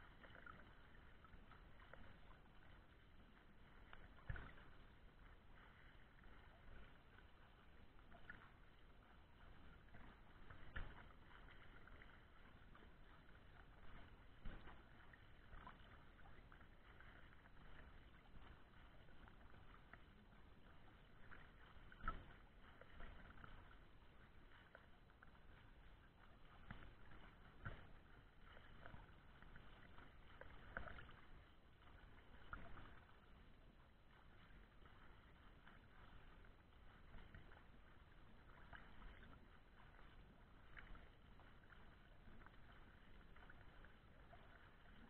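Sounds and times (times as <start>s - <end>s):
water splashing from swimmers: 0.0s - 45.0s.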